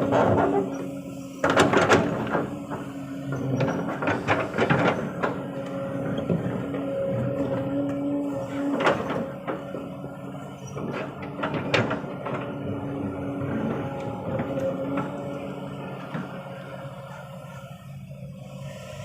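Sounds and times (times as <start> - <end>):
excavator engine with whine: 0.0 - 19.0.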